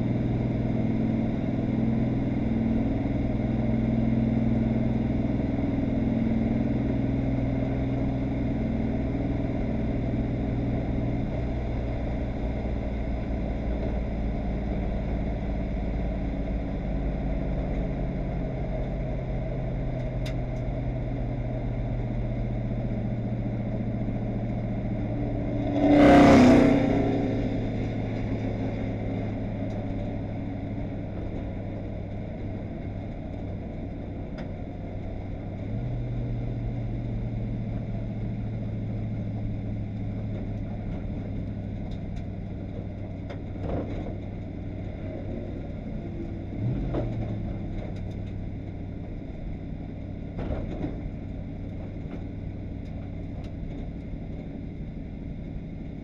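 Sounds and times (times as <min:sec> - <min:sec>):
car engine running low revs: 0:00.0 - 0:56.0.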